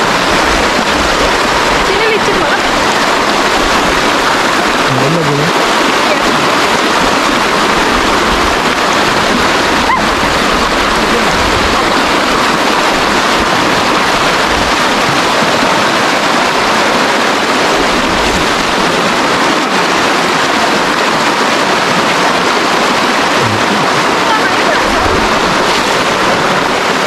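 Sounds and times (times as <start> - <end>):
river running over rocks: 0.0 - 27.0.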